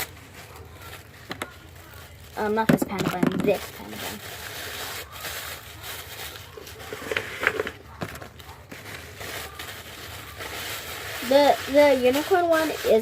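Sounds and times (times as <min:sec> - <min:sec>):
wrapping material crinkling: 0:00.0 - 0:13.0.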